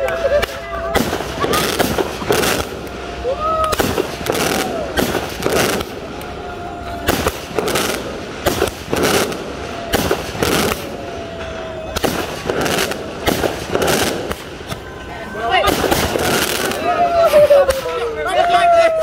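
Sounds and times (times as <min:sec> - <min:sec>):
firework bangs: 0:00.0 - 0:19.0.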